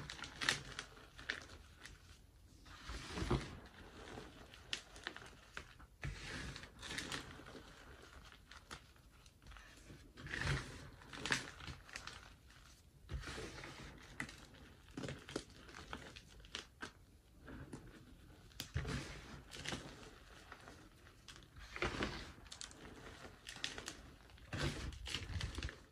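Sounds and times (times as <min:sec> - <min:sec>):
hands crumbling chalk powder: 0:00.0 - 0:25.9.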